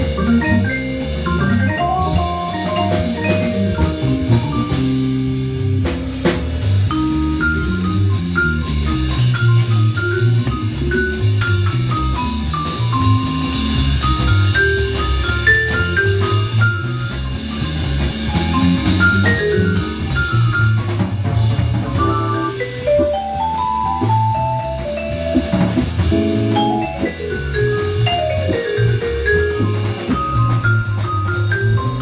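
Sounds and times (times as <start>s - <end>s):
drum kit playing: 0.0s - 32.0s
vibraphone jazz solo: 0.0s - 32.0s.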